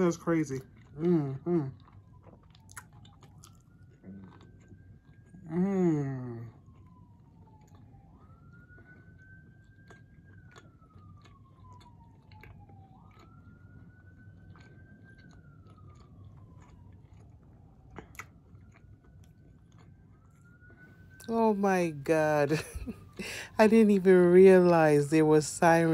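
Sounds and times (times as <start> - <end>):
faint siren wailing: 0.0 - 25.9
chewing and mouth clicks: 0.6 - 21.3.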